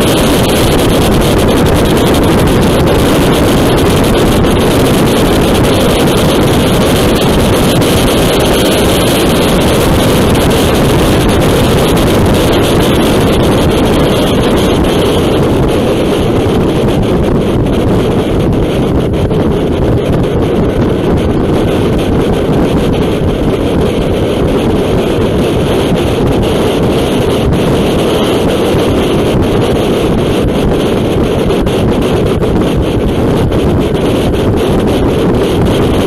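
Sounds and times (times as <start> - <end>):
motorcycle running and tyre noise: 0.0 - 36.0
wind rushing over microphone: 0.0 - 36.0.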